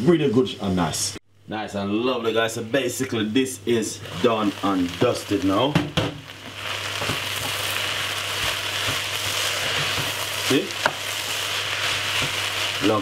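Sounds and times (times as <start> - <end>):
vegetables sizzling in a saucepan: 2.2 - 13.0.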